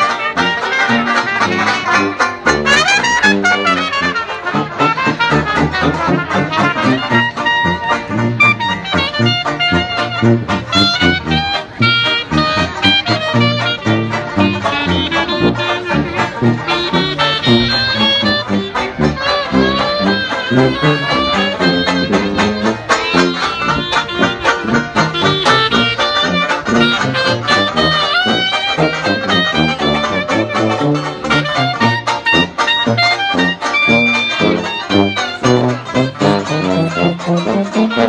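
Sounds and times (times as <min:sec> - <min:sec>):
banjo rhythm: 0:00.0 - 0:38.0
clarinet melody: 0:00.0 - 0:38.0
sousaphone bass line: 0:00.0 - 0:38.0.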